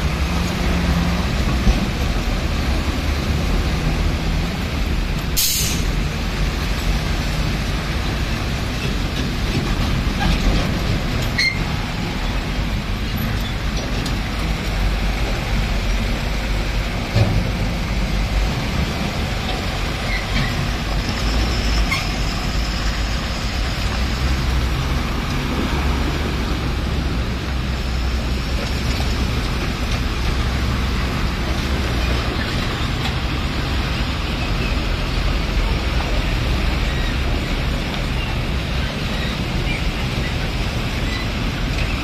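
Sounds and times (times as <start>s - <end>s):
heavy truck engines in traffic: 0.0s - 42.0s.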